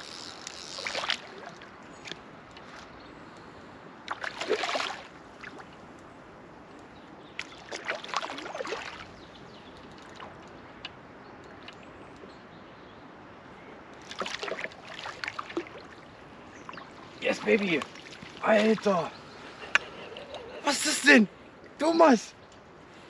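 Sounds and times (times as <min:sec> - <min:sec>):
river flowing: 0:00.0 - 0:11.9, 0:13.2 - 0:22.8.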